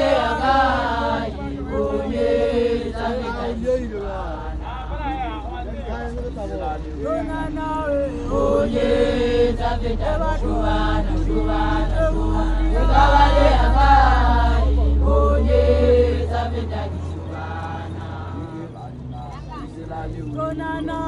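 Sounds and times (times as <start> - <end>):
women singing in harmony: 0.0 - 4.6, 6.1 - 21.0
steady low rumble: 0.0 - 21.0.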